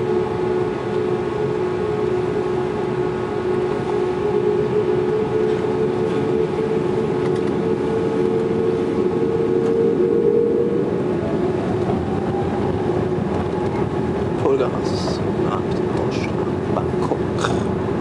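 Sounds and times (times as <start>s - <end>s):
jet engines rushing and droning: 0.0s - 18.0s.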